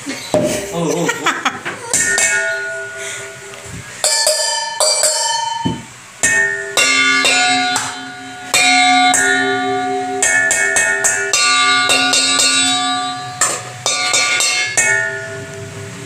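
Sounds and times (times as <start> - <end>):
metal bowls ringing when struck: 0.3 - 0.9, 1.8 - 16.0.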